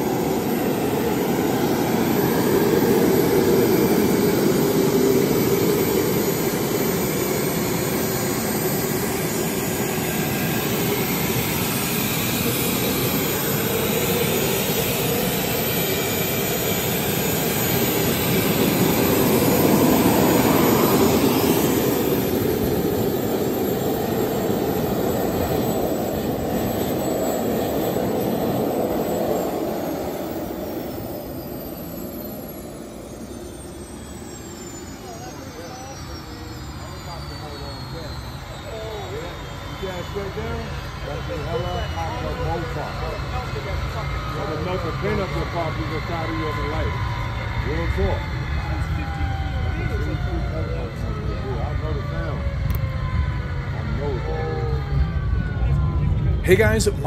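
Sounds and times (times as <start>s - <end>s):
turbine engine rush and whine: 0.0s - 57.0s.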